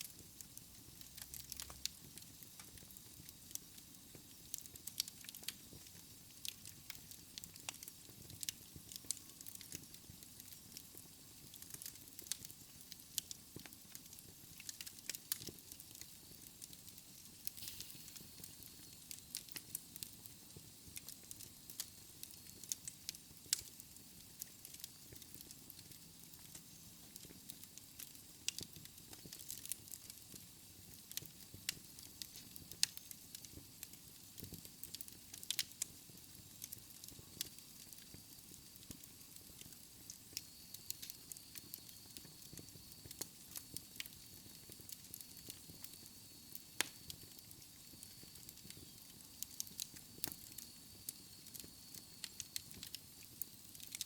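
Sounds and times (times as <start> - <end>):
hiss of flames: 0.0 - 54.0
wood fire crackling and popping: 0.0 - 54.0.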